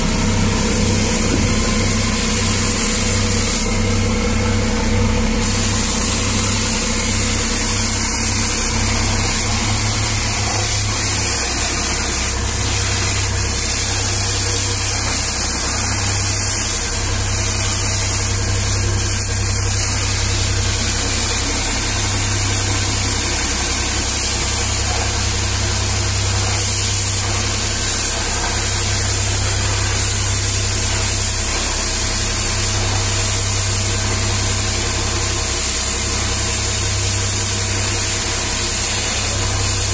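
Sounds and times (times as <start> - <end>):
engine drone: 0.0 - 39.9
high-pressure water jet hissing: 0.0 - 39.9.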